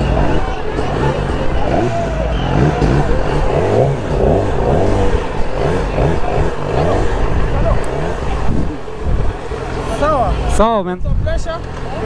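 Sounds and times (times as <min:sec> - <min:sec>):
motorcycle engines rumbling: 0:00.0 - 0:12.0
people talking: 0:00.0 - 0:12.0.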